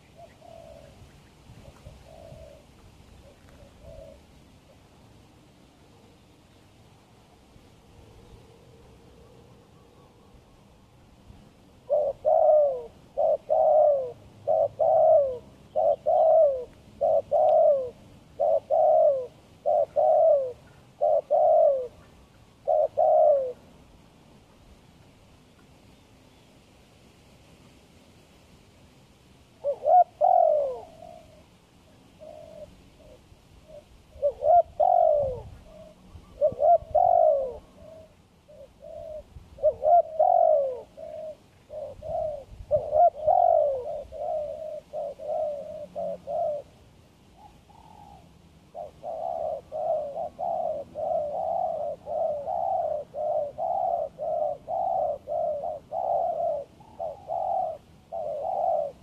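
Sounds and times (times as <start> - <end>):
dove cooing: 0.0 - 5.0, 7.0 - 24.0, 29.6 - 59.0.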